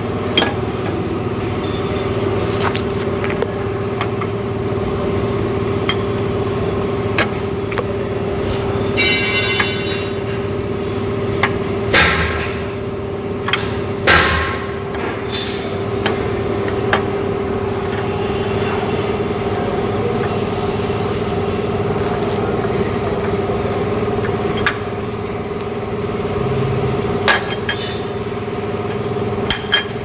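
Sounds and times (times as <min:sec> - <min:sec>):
mechanical hum: 0:00.0 - 0:30.0.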